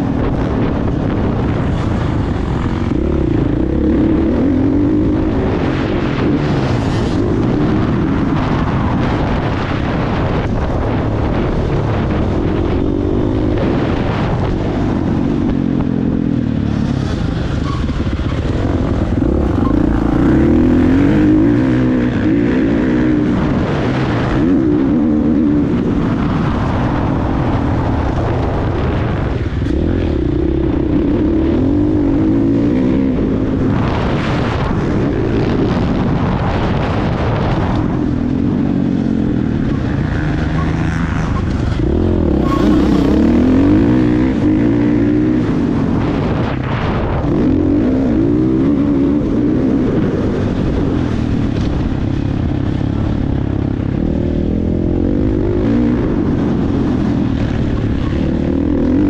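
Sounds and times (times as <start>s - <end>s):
motocross bike engine revving: 0.6s - 59.0s.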